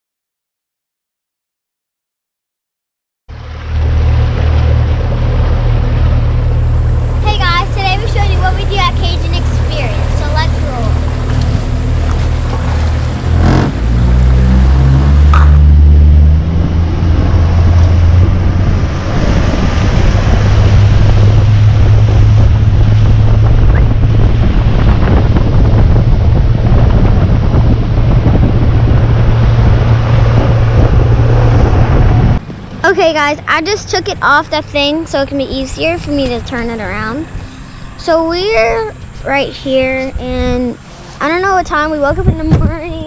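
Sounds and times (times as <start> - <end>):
boat motor humming: 3.3 - 43.0
wind on microphone: 3.3 - 43.0.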